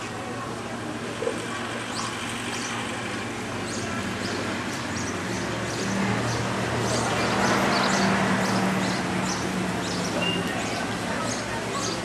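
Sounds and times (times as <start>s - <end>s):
outdoor background noise with hum: 0.0s - 12.0s
small birds chirping: 1.3s - 12.0s.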